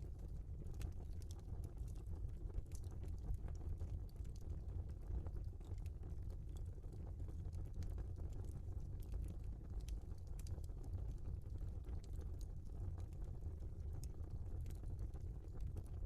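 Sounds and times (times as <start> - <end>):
low steady fire rumble: 0.0 - 16.0
wood fire crackling and popping: 0.1 - 16.0.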